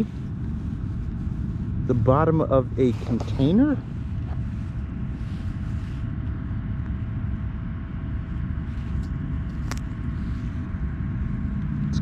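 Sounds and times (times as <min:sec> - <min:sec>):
faint steady hum: 0:00.0 - 0:12.0
low background rumble: 0:00.0 - 0:12.0.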